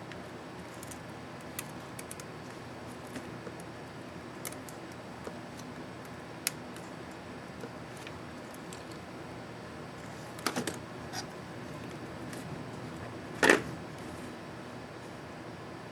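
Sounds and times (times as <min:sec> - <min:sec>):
steady background hum: 0:00.0 - 0:15.9.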